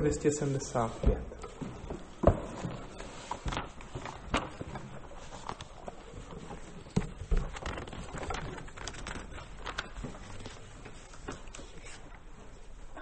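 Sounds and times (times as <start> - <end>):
rustling of songbooks: 0.0 - 13.0.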